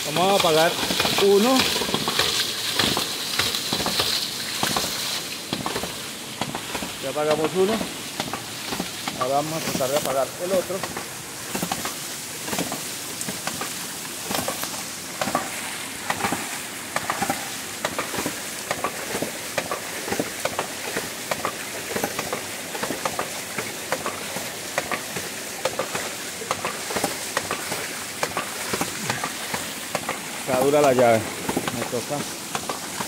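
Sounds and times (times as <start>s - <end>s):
pump valves clacking: 0.0s - 33.0s
water gushing and splashing: 0.0s - 33.0s.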